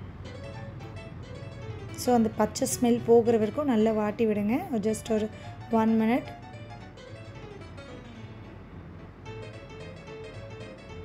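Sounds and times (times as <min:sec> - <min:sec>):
instrumental music light notes: 0:00.0 - 0:11.0.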